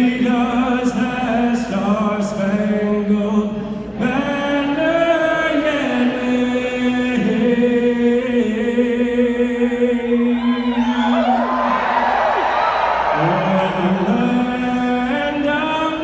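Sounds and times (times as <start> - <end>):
anthem sung over sound system: 0.0 - 16.0.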